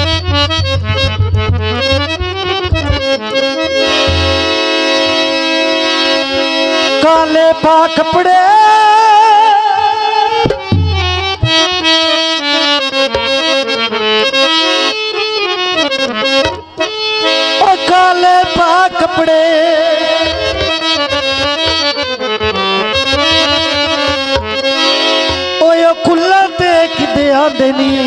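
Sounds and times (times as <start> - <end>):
harmonium melody: 0.0 - 28.0.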